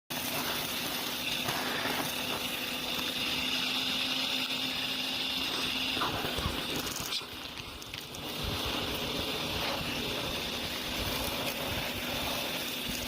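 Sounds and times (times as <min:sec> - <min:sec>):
vacuum cleaner running: 0:00.1 - 0:13.0.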